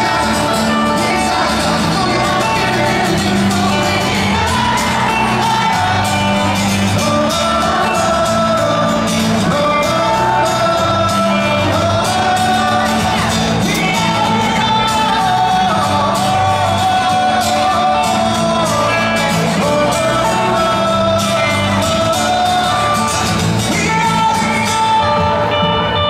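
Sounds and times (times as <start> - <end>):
acoustic guitars strumming: 0.0 - 26.0
crowd shouting and whooping: 0.0 - 26.0
person singing: 0.0 - 26.0.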